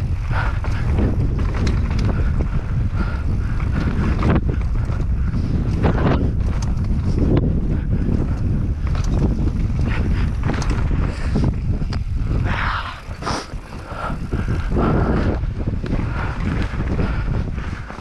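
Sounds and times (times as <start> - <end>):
bike rattling over rocks: 0.0 - 18.0
wind rumbling on microphone: 0.0 - 18.0.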